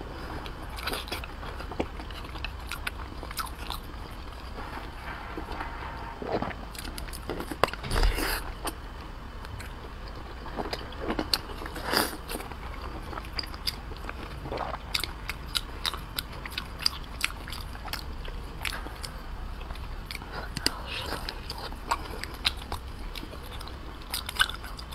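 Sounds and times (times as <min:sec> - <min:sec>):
wet chewing and smacking: 0:00.4 - 0:05.0, 0:09.4 - 0:24.9.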